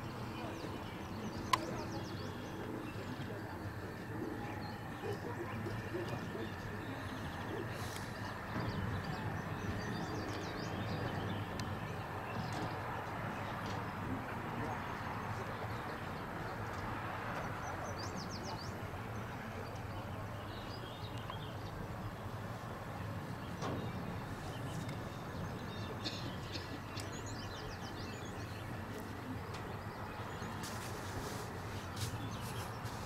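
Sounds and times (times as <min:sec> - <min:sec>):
low outdoor noise: 0:00.0 - 0:33.0
small birds chirping: 0:00.0 - 0:33.0.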